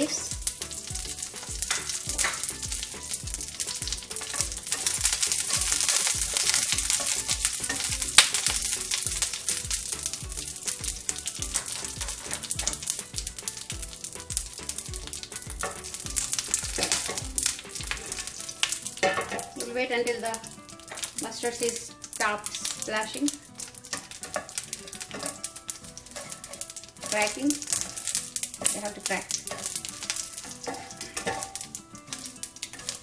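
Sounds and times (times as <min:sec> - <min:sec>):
seeds sizzling and popping in oil: 0:00.0 - 0:33.0.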